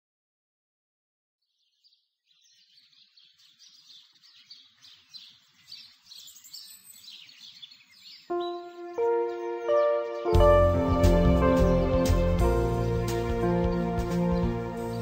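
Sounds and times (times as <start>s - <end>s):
birds chirping: 1.4s - 15.0s.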